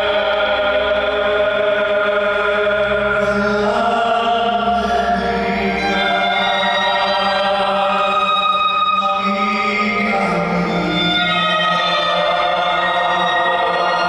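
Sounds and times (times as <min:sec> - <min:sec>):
choir-like chanting voices: 0:00.0 - 0:14.0.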